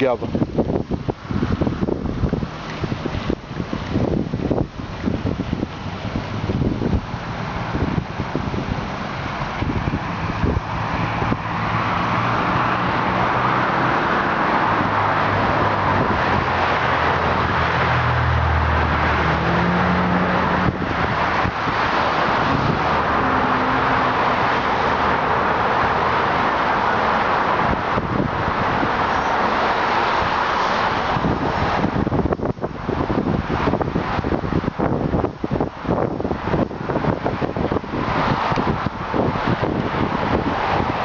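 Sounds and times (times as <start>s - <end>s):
low engine hum: 0.0s - 41.0s
road traffic noise: 0.0s - 41.0s
wind on microphone: 0.0s - 41.0s.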